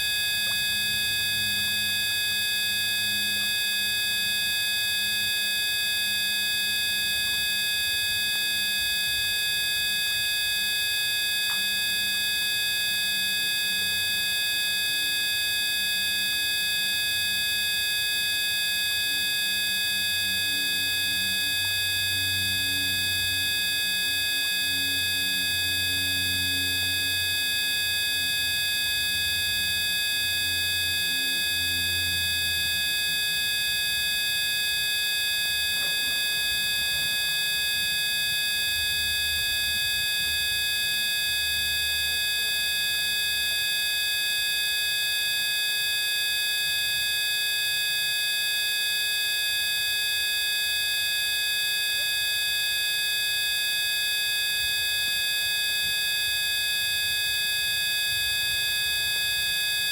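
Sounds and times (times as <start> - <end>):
electronic sine tone drone: 0.0 - 59.9.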